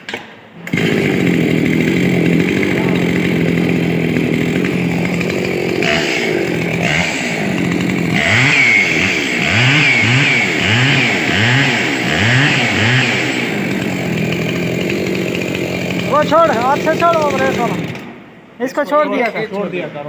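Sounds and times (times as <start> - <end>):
chainsaw engine idling and revving: 0.6 - 18.3.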